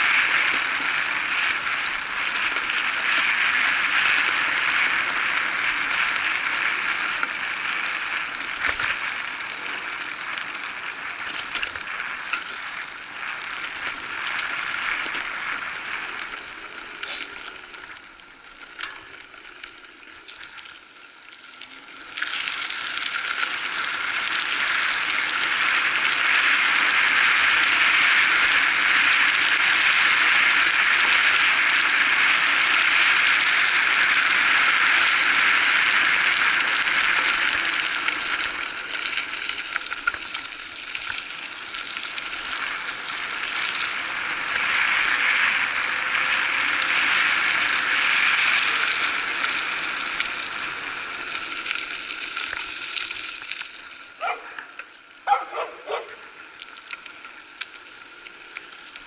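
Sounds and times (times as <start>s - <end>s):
bike tyres rolling on gravel: 0.0s - 59.0s.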